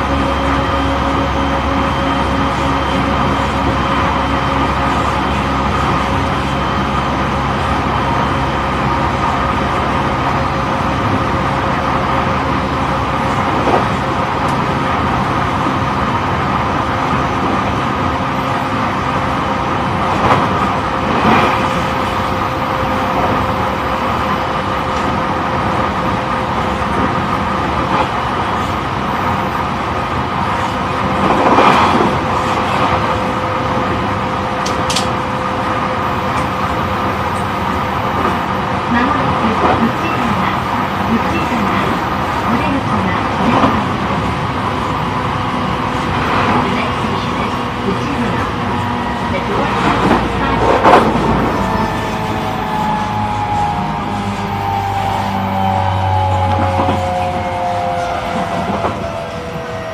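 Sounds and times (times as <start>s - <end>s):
train motor hum: 0.0s - 59.9s
train rolling noise: 0.0s - 59.9s.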